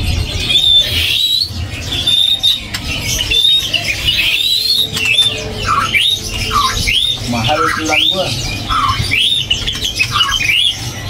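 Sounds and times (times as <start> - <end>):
bird singing whistled phrases: 0.4 - 11.0.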